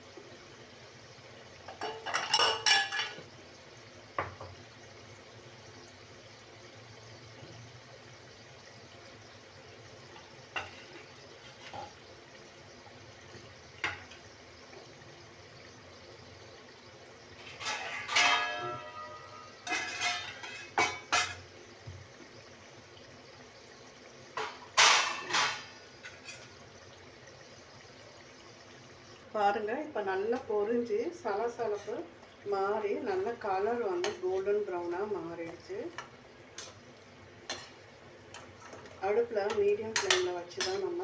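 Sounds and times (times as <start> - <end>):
oil sizzling and bubbling: 0.0 - 41.0.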